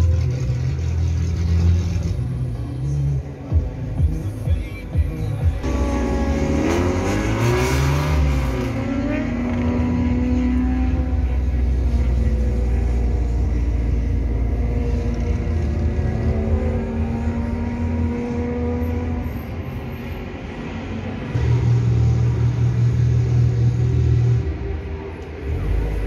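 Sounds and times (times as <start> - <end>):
car engine rumble while driving: 0.0 - 26.0.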